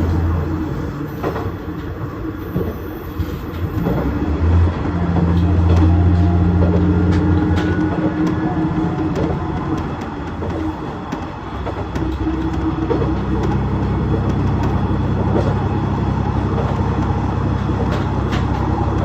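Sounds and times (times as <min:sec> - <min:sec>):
diesel railcar engine drone: 0:00.0 - 0:19.0
wheels clicking over rail joints: 0:00.0 - 0:19.0.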